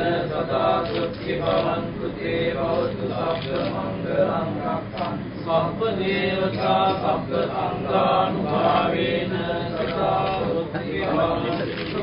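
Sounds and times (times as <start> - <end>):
voices chanting: 0.0 - 12.0.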